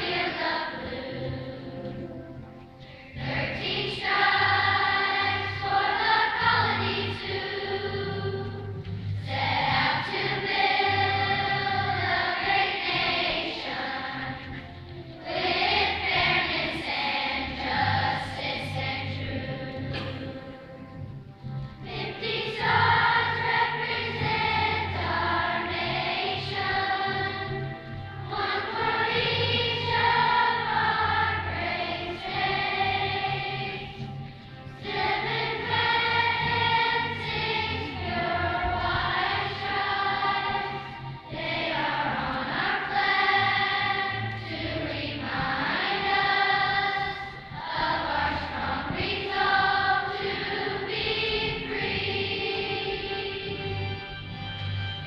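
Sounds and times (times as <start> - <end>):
children's choir singing: 0.0 - 55.0
musical accompaniment: 0.0 - 55.0.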